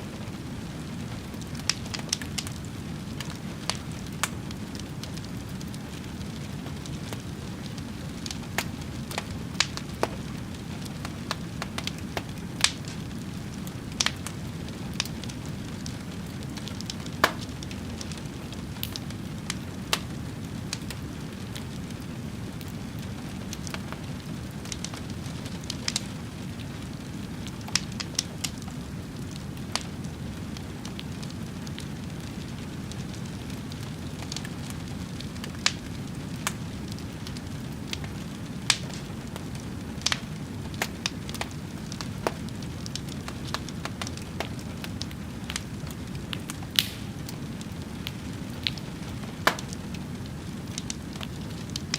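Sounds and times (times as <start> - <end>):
burning wood crackling and popping: 0.0 - 51.9
low rumble of flames: 0.0 - 51.9.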